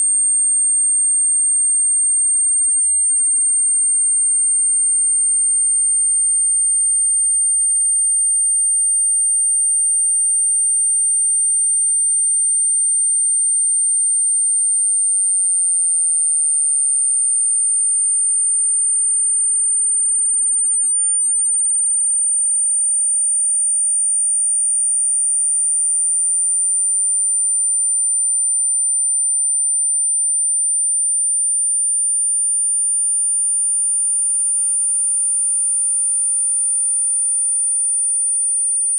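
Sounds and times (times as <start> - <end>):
high-pitched sine tone: 0.0 - 38.9.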